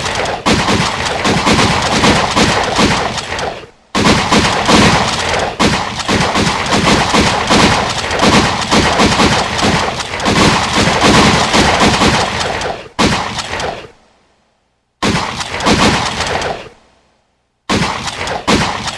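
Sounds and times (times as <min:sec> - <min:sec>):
gunshots echoing indoors: 0:00.0 - 0:14.0, 0:15.0 - 0:16.8, 0:17.7 - 0:18.9.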